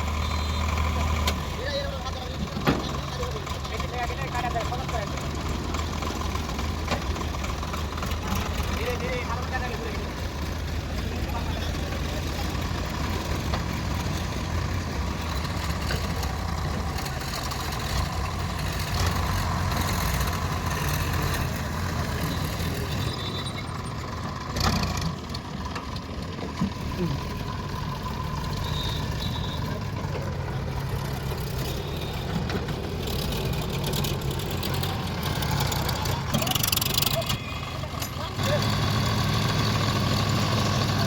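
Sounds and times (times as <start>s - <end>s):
heavy machinery diesel engines: 0.0s - 41.0s.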